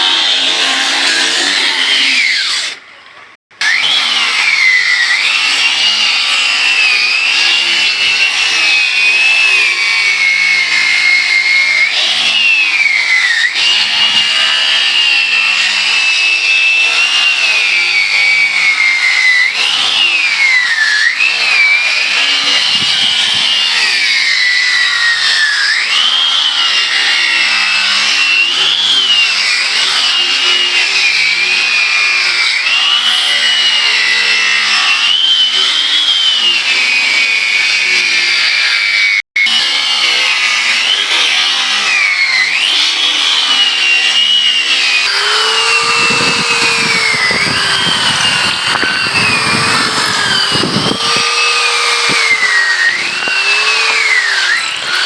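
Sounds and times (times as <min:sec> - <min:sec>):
power tool cutting wood: 0:00.0 - 0:55.0.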